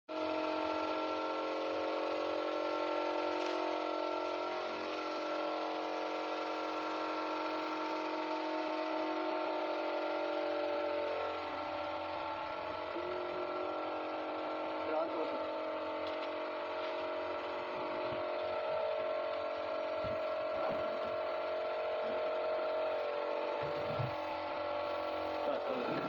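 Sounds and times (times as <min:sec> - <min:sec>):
steady mechanical whir: 0:00.1 - 0:26.0.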